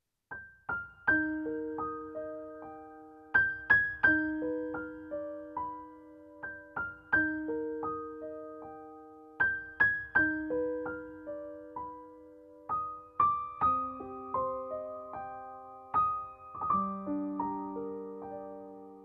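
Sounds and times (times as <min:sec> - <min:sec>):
slow piano music: 0:00.3 - 0:19.0.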